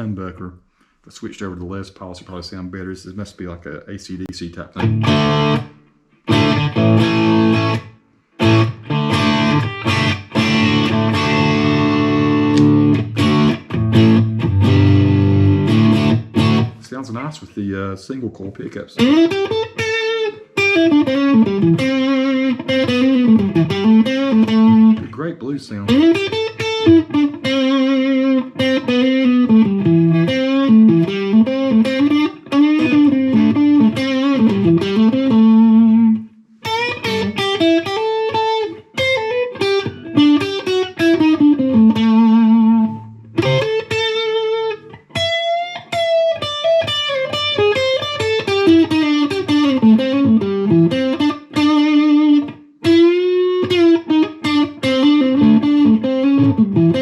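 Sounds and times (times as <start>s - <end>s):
electric guitar lead lines: 4.8s - 17.4s, 19.0s - 57.0s.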